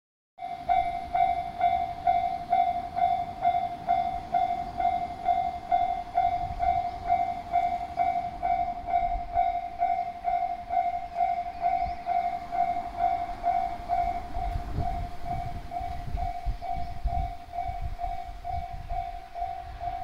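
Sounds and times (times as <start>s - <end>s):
level crossing warning bell: 0.4s - 20.0s.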